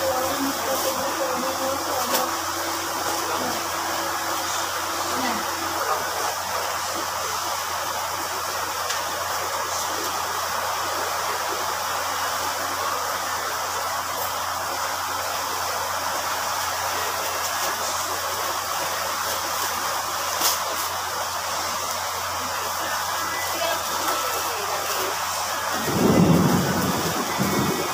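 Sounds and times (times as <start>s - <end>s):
rushing background noise: 0.0s - 27.9s.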